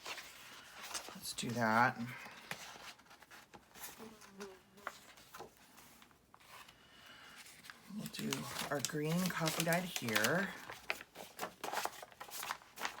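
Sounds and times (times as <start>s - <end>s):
paper rustling and sliding: 0.0s - 13.0s.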